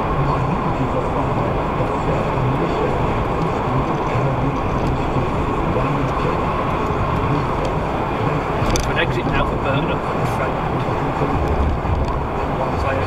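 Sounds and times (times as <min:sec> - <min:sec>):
car engine: 0:00.0 - 0:13.0
tyres on road: 0:00.0 - 0:13.0.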